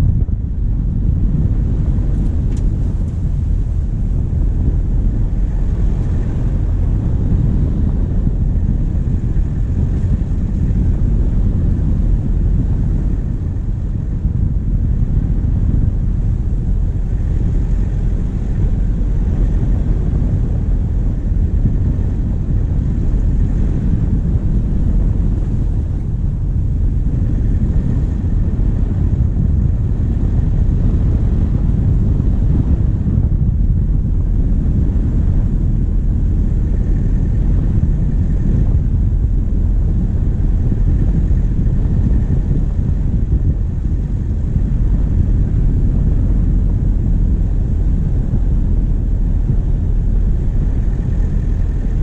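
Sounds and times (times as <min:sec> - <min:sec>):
diesel engine rumble: 0:00.0 - 0:52.0
tyre and wind noise: 0:00.0 - 0:52.0.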